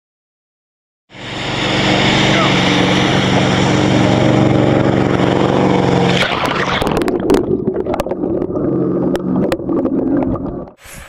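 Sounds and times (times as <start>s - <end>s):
boat engine running: 1.1s - 10.8s
rushing wind and water: 1.1s - 11.0s.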